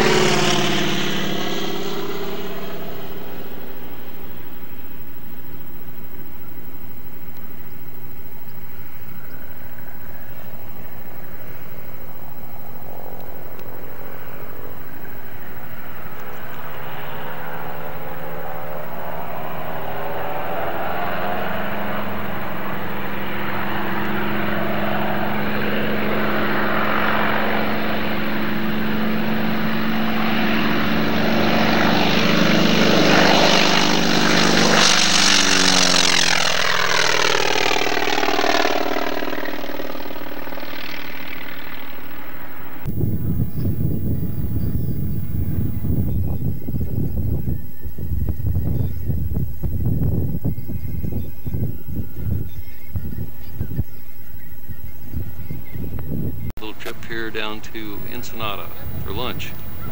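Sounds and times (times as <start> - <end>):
propeller airplane taking off: 0.0 - 59.9.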